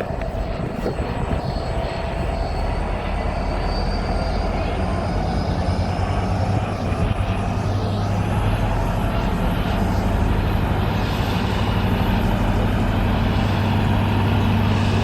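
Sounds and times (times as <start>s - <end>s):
high whine rising in pitch: 0.0s - 15.0s
train motor rumble: 0.0s - 15.0s.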